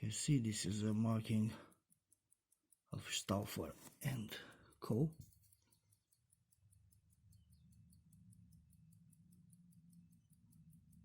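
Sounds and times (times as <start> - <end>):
low room hum: 0.0 - 11.0
pocket watch ticking: 0.0 - 11.0.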